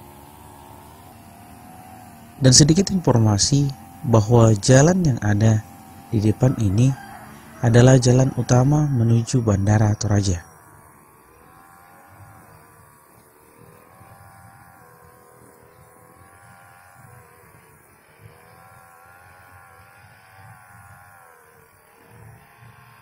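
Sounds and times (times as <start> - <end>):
grass trimmer engine running: 0.0 - 23.0.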